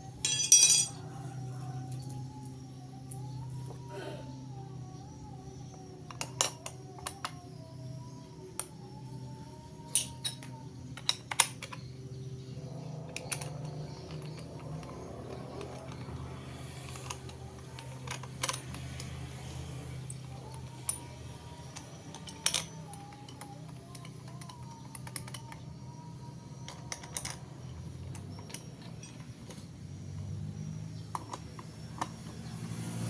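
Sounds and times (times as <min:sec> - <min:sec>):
small hard parts clicking: 0:05.1 - 0:33.0.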